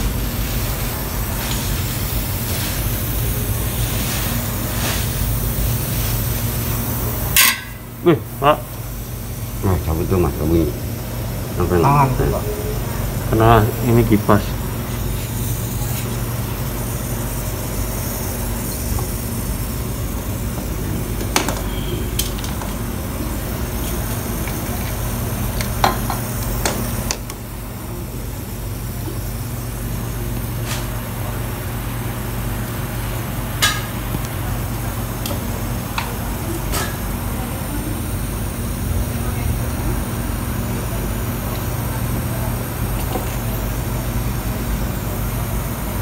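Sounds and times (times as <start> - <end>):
refrigerator humming: 0.0 - 46.0.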